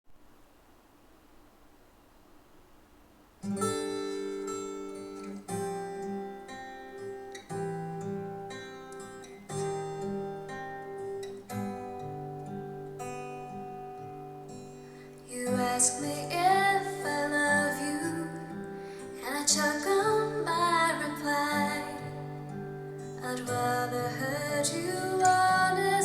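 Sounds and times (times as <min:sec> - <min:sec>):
strummed acoustic guitar chords: 0:03.4 - 0:26.0.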